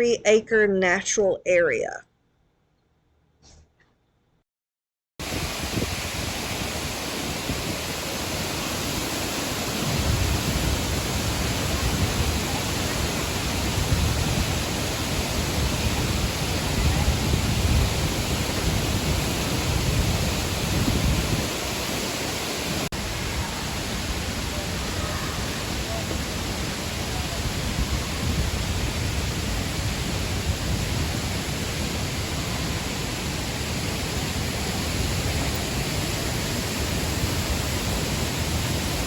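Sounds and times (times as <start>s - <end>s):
waterfall pouring: 5.2s - 39.0s.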